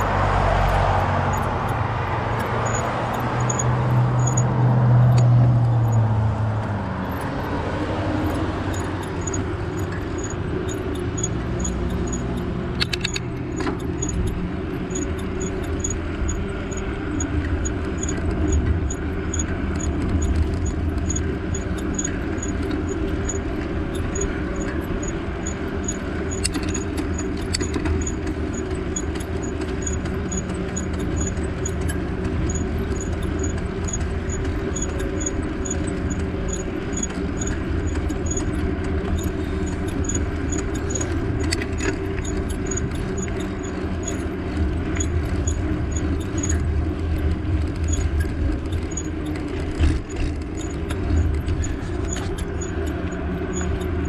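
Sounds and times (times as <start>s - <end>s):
wind and road rumble: 0.0s - 54.0s.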